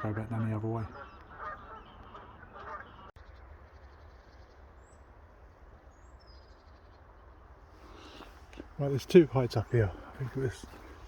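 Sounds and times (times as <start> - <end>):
distant waterfowl calling: 0.0 - 4.7, 6.2 - 11.0.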